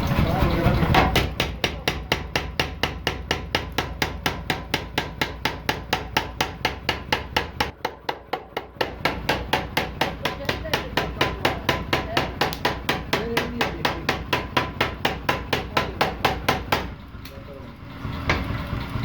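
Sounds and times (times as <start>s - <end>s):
hammer striking steel: 0.9s - 17.0s.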